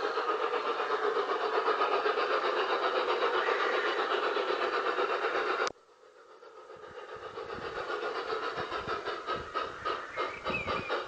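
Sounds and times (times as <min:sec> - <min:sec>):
model train steam chuffs: 0:00.0 - 0:11.0.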